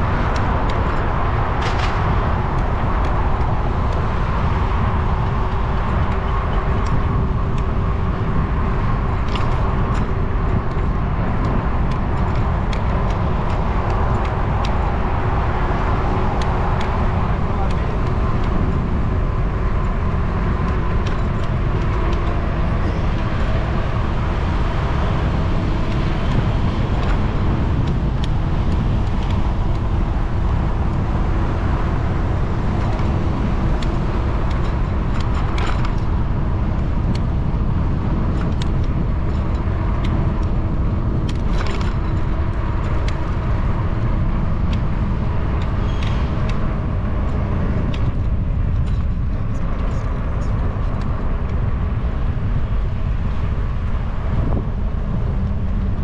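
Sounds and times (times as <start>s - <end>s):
car traffic: 0.0s - 56.0s
wind and tyres rumble: 0.0s - 56.0s
light clicks and rattles: 0.1s - 55.8s.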